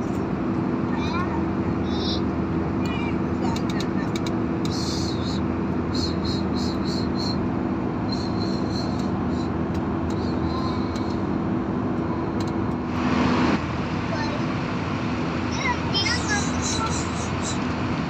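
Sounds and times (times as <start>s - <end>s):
airliner cabin noise: 0.0s - 18.0s.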